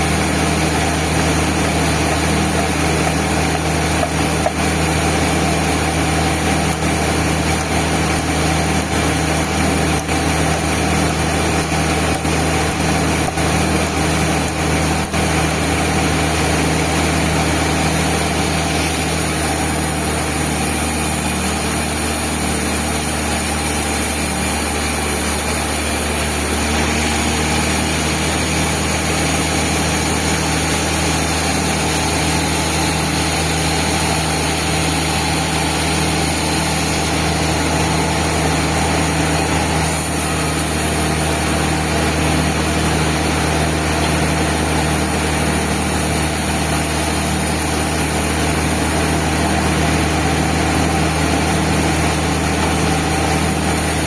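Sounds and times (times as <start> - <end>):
band sawmill running: 0.0 - 54.0.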